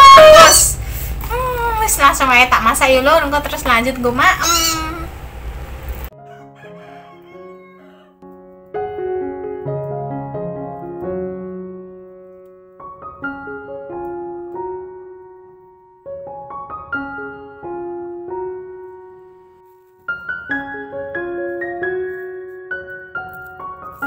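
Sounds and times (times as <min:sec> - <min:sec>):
gentle piano music: 0:01.3 - 0:24.0.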